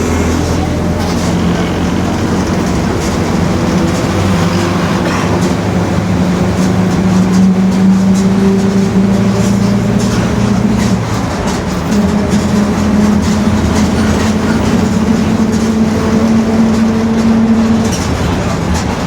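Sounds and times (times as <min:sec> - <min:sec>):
bus diesel engine droning: 0:00.0 - 0:19.0
differential droning: 0:00.0 - 0:19.0.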